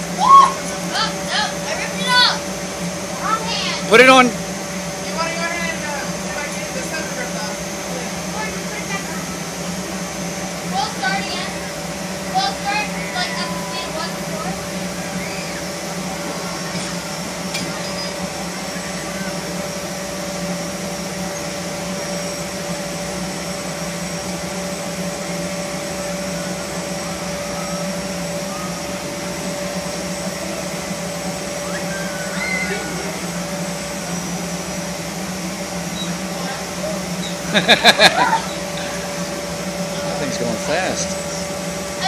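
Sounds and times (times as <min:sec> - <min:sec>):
faint steady whine: 0:00.0 - 0:42.0
machinery electric whirring drone: 0:00.0 - 0:42.0.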